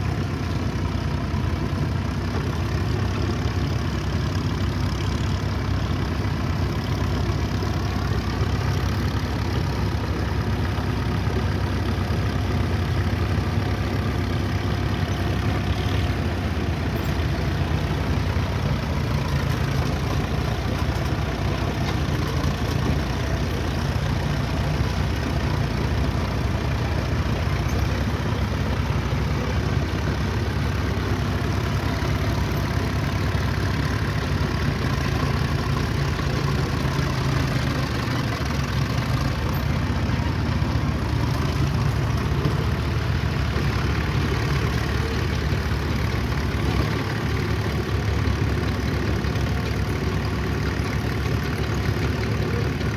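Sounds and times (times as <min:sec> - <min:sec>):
heavy machine engine running: 0:00.0 - 0:52.9.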